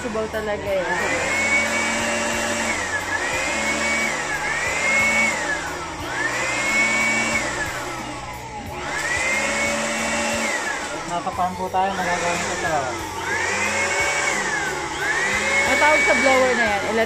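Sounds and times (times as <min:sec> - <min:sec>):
electric blower whine: 0:00.0 - 0:17.0.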